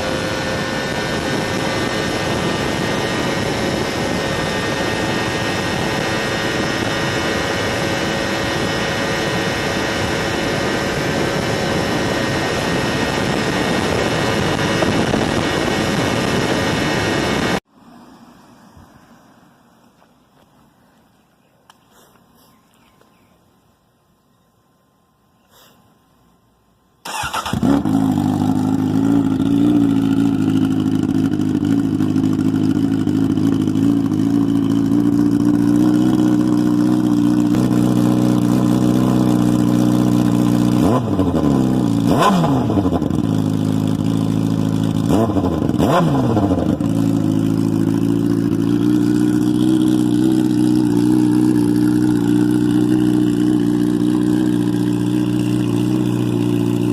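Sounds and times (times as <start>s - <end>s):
motorcycle engine starting and idling: 0.0s - 17.6s, 27.0s - 56.9s
motorcycle throttle revs: 0.0s - 17.6s, 27.0s - 56.9s.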